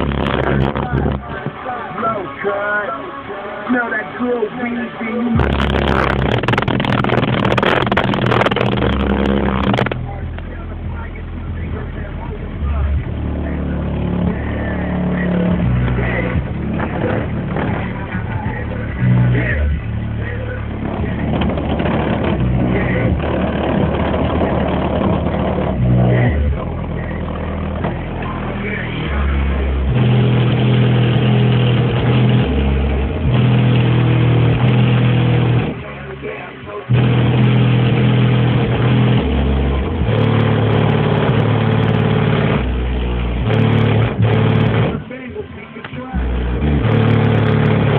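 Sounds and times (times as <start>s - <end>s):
bass-heavy song on subwoofers: 0.0s - 47.9s.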